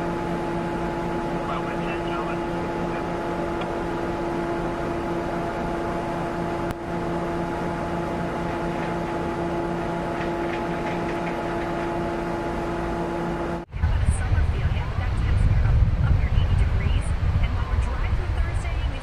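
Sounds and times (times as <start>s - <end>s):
engine hum: 0.0s - 19.0s.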